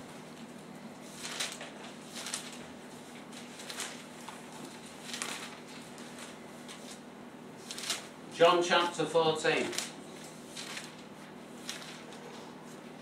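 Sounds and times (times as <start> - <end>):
paper pages rustling: 1.0 - 8.2, 9.5 - 12.9.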